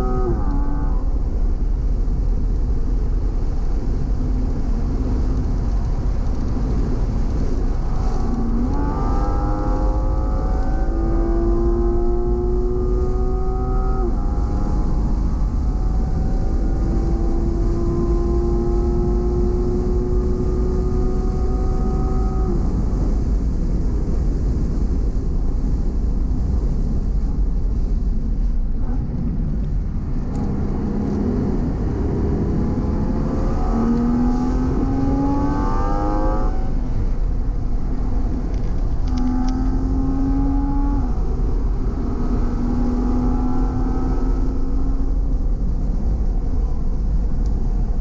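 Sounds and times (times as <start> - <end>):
wind and tyre noise: 0.0 - 48.0
car engine accelerating: 2.3 - 23.2, 27.8 - 48.0.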